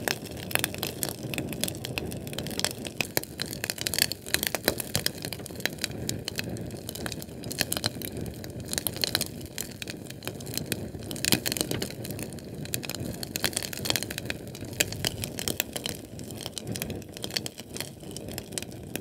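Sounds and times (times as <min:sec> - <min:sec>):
fire crackling and popping: 0:00.0 - 0:19.0
low rush of flame: 0:00.0 - 0:19.0.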